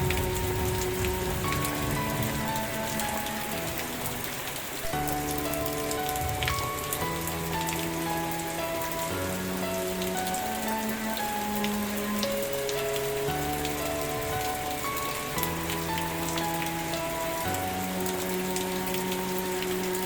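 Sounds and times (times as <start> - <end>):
rain drops on hard surface: 0.0 - 20.0
soft music chords: 0.0 - 20.0.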